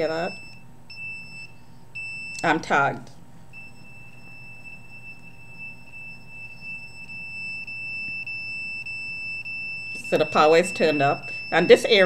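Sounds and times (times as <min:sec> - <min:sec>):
high-pitched alarm tone: 0:00.0 - 0:02.4, 0:03.5 - 0:12.0.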